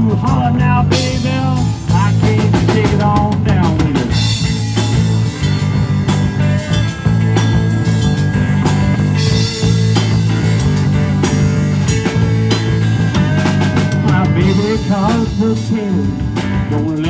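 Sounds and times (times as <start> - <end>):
rock band playing instrumental: 0.0 - 17.0.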